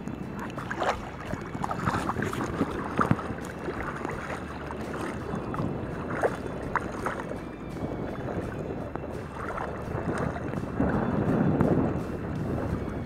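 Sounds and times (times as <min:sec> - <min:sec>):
small water splashes: 0:00.0 - 0:11.1
seawater sloshing around legs: 0:00.0 - 0:12.1
wind buffeting microphone: 0:00.0 - 0:13.0.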